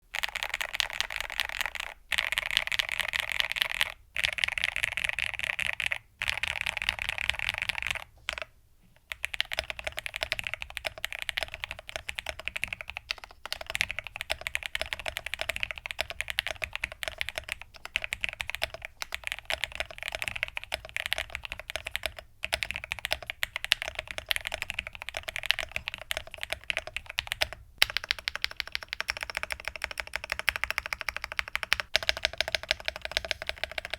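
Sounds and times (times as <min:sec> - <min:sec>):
mechanical keyboard typing: 0:00.1 - 0:08.5, 0:09.1 - 0:33.9.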